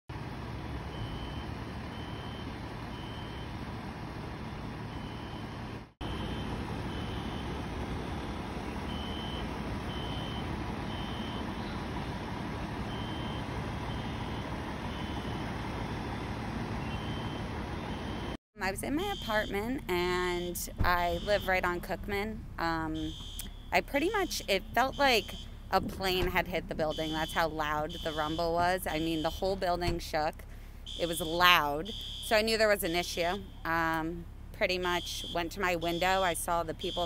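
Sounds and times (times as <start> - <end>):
truck reversing beeper: 0.1 - 34.1, 34.7 - 37.0
heavy trucks rumbling: 0.1 - 37.0.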